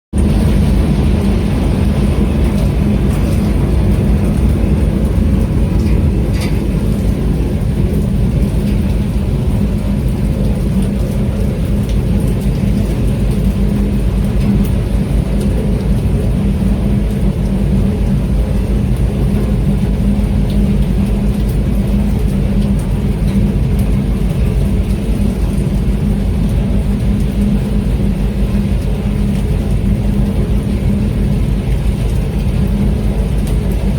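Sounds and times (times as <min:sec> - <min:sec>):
boat engine droning: 0:00.2 - 0:33.9
rain falling: 0:00.2 - 0:33.9.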